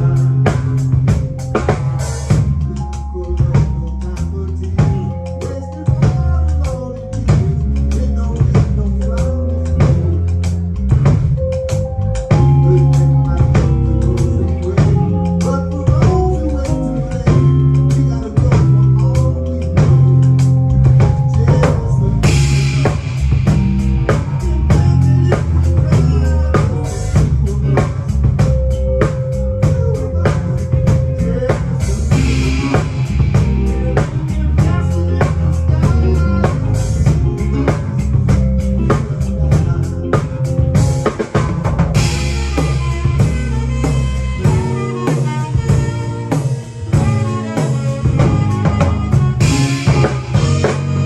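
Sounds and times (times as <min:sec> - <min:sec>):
drum kit: 0:00.0 - 0:51.0
live band playing: 0:00.0 - 0:51.0.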